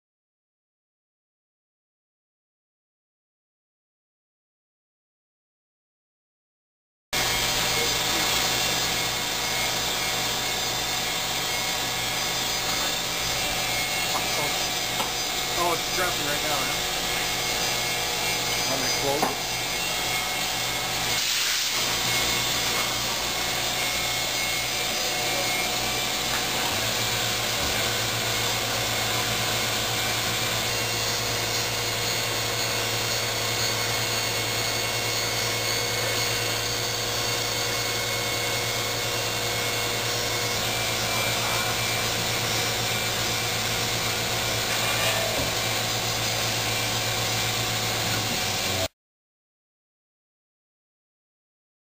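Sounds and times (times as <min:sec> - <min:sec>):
grinding machine whir and hiss: 0:07.2 - 0:48.9.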